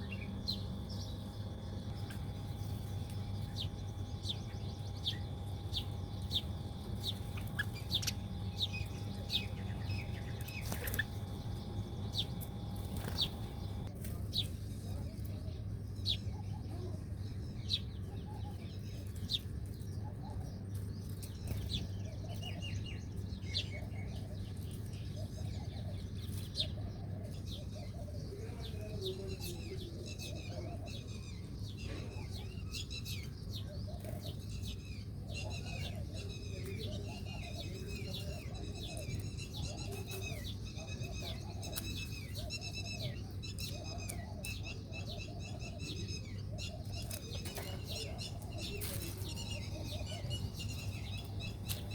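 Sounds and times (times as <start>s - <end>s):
low steady hum: 0.0s - 51.9s
small birds chirping: 0.0s - 51.9s.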